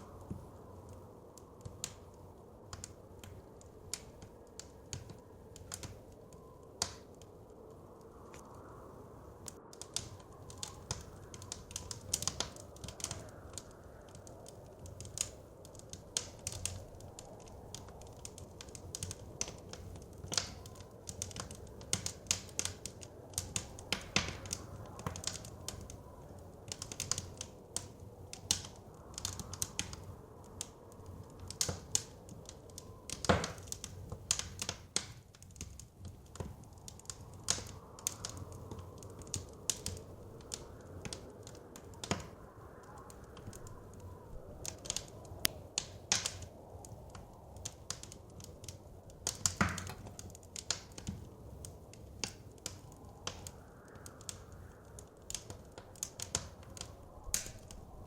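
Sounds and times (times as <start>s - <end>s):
blizzard wind rushing: 0.0s - 58.0s
wood fire crackling and popping: 0.0s - 58.0s.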